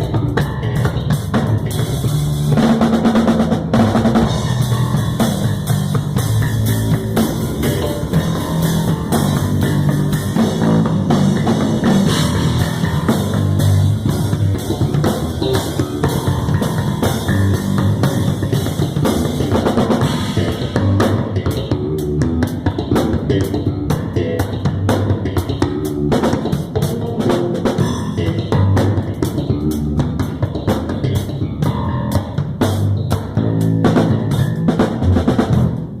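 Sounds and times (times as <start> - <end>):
drum kit playing a groove: 0.0 - 36.0
electric bass guitar: 0.0 - 36.0.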